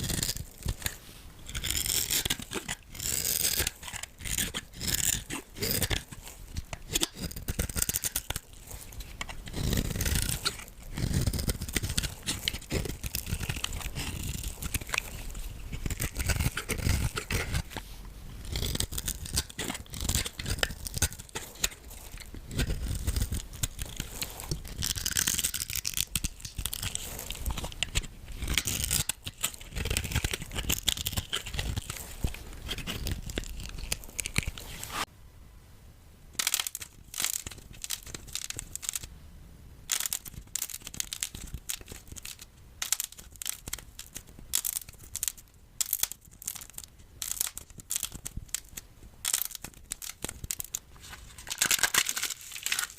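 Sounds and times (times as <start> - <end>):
soap crackling and crunching: 0.0 - 35.1, 36.4 - 39.1, 39.8 - 52.9.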